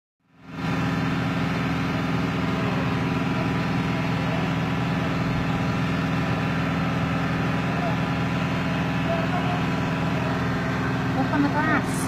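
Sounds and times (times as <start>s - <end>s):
low mechanical hum: 0.3s - 12.0s.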